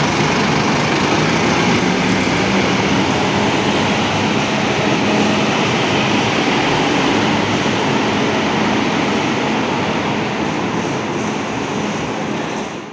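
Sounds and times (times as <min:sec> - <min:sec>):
bus engine and road noise: 0:00.0 - 0:12.9.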